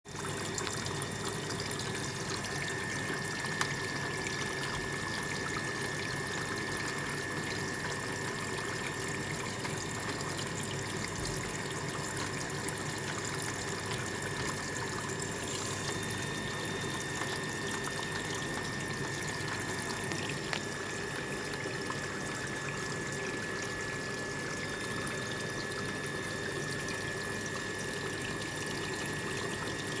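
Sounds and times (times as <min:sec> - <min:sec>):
water running: 0:00.1 - 0:30.0.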